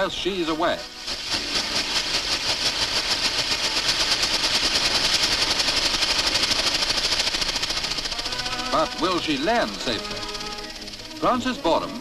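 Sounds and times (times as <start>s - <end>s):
model jet motors rattling buzz: 0.0s - 12.0s.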